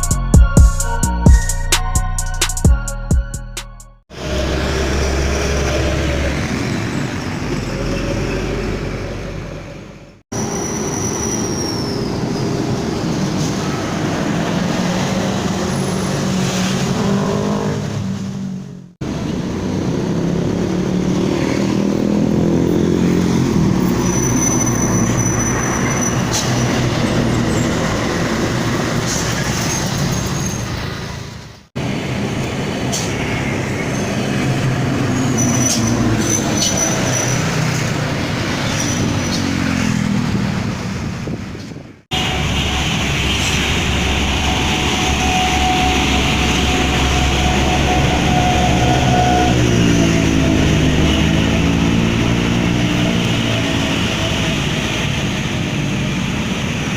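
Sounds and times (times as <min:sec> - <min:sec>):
diesel truck engines pulling past: 0:04.1 - 0:56.9.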